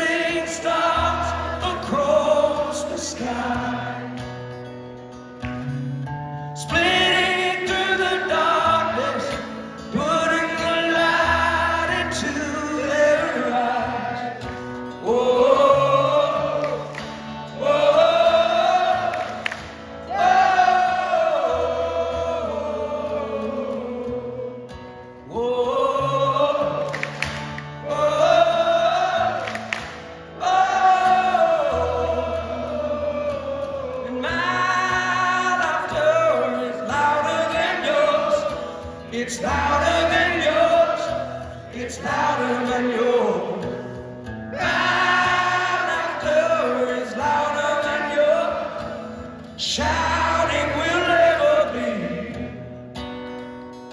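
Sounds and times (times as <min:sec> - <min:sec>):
man singing slow rock song: 0:00.0 - 0:53.3
acoustic guitar: 0:00.0 - 0:53.9.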